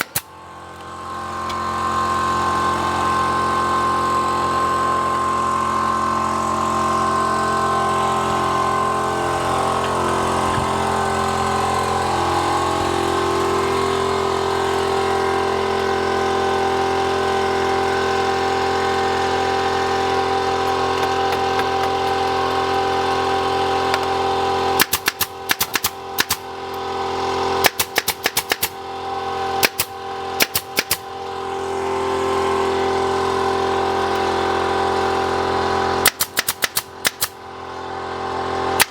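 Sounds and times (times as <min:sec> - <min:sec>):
woodworking machine humming: 0:00.0 - 0:38.9.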